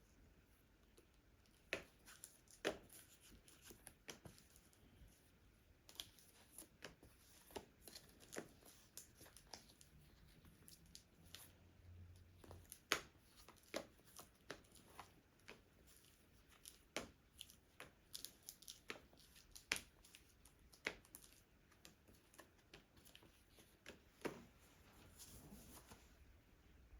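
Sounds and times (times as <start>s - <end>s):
playing cards being handled: 0.9s - 11.5s, 12.4s - 26.1s.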